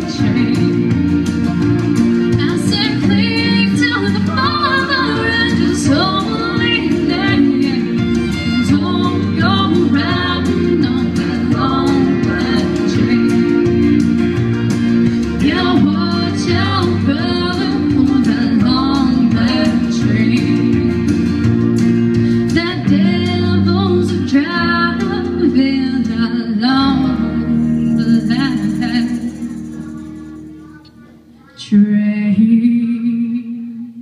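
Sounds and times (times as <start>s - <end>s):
instrumental backing music: 0.0s - 34.0s
woman singing country song: 0.0s - 34.0s.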